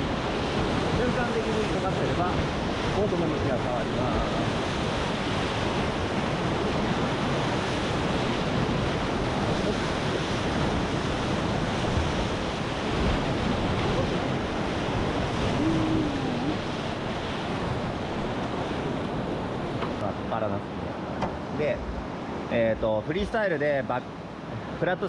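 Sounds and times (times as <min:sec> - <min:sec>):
wind buffeting microphone: 0:00.0 - 0:22.9
whitewater rapid roaring: 0:00.0 - 0:23.6.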